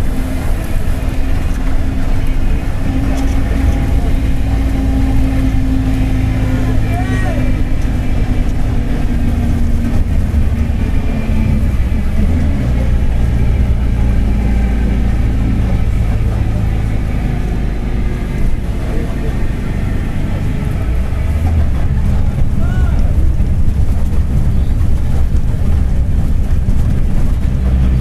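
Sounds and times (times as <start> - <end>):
bus diesel engine running: 0.0 - 28.0
low driveshaft rumble: 0.0 - 28.0.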